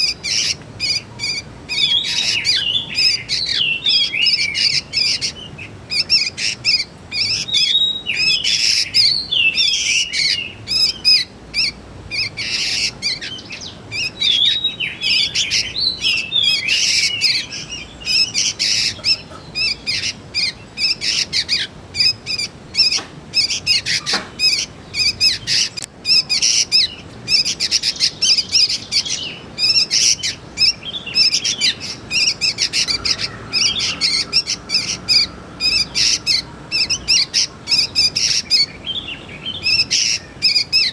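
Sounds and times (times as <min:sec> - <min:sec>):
bulbuls chirping: 0:00.0 - 0:40.9.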